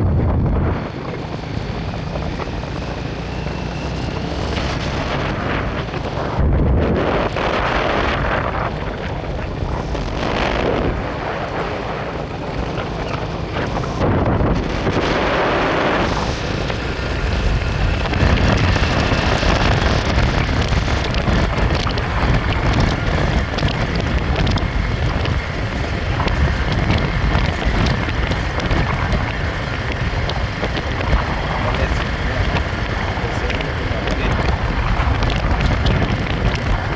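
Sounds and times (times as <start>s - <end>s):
road and engine rumble: 0.0s - 36.9s
wind buffeting microphone: 0.0s - 36.9s.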